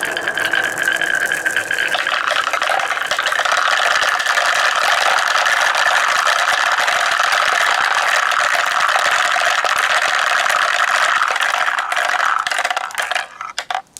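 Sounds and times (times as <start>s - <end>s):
marbles rattling down wooden tracks: 0.0s - 13.9s.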